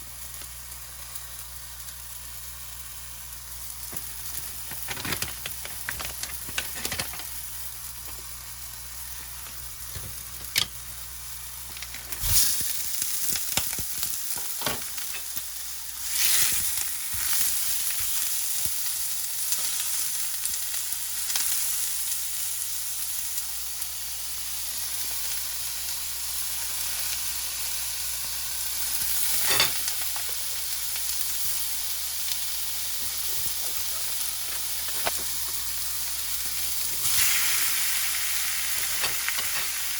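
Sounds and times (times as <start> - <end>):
food sizzling in a hot pan: 0.0 - 39.9.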